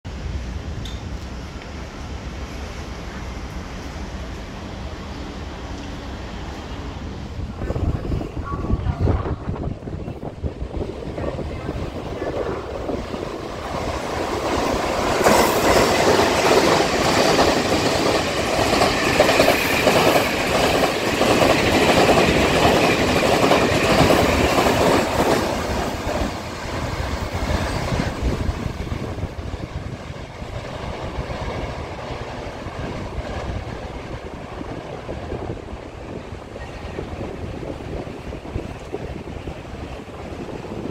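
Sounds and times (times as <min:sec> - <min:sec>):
train wheel and rail noise: 0:00.0 - 0:40.9.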